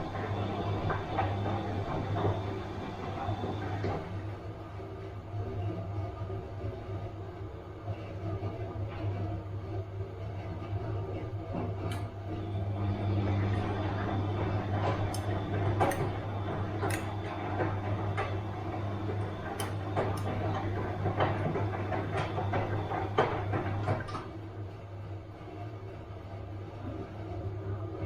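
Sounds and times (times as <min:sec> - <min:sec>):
washing machine hum: 0:00.0 - 0:28.0.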